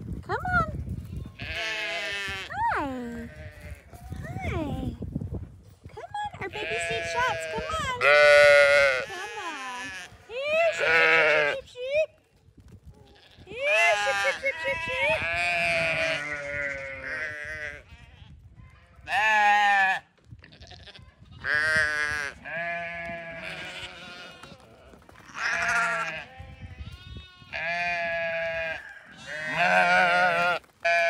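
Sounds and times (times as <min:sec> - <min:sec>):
sheep bleating: 0:01.2 - 0:03.8, 0:06.4 - 0:11.6, 0:13.1 - 0:18.3, 0:19.0 - 0:31.0.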